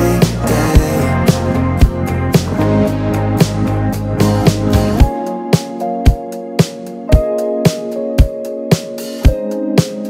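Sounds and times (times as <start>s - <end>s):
steady drum beat: 0.0s - 10.0s
sustained keyboard chords: 0.0s - 10.0s.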